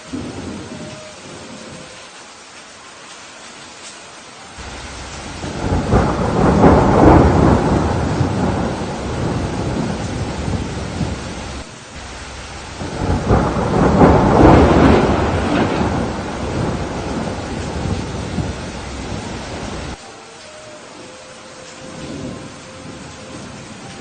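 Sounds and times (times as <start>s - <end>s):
rolling thunder: 0.0s - 1.9s, 4.6s - 20.0s, 21.8s - 24.0s
rain falling: 0.0s - 24.0s.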